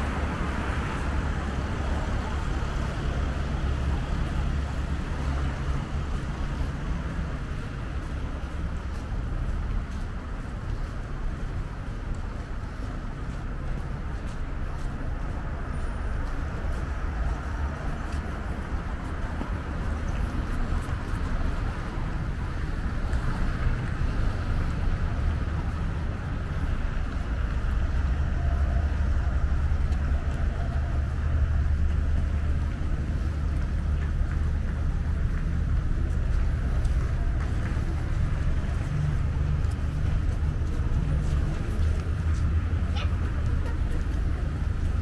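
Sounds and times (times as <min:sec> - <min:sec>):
street traffic rumble: 0:00.0 - 0:45.0.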